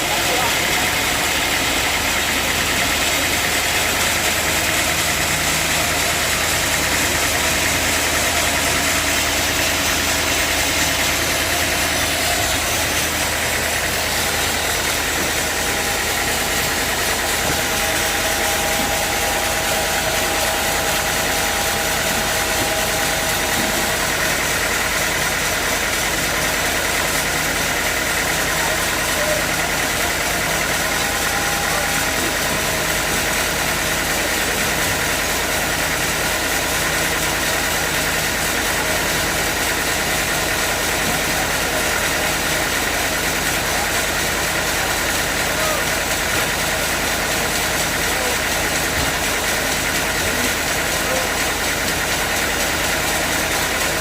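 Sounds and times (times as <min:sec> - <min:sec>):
constant machine hiss: 0:00.0 - 0:54.0
sawmill engine drone: 0:00.0 - 0:54.0.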